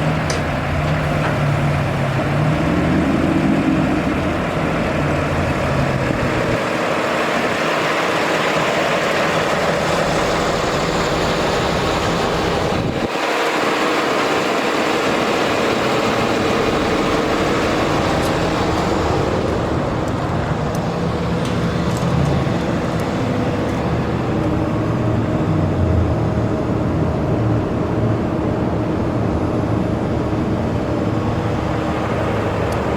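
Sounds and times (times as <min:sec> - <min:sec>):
diesel truck engine and road noise: 0:00.0 - 0:32.9.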